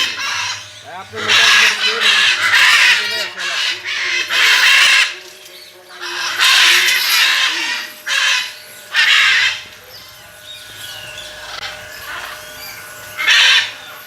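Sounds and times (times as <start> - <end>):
parrots squawking: 0.0 - 14.0.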